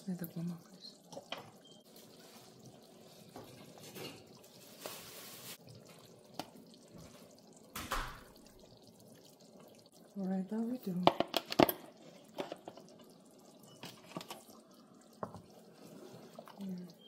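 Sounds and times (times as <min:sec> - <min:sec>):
stew bubbling in a pot: 0:00.0 - 0:17.0
small splashes in stew: 0:00.1 - 0:17.0.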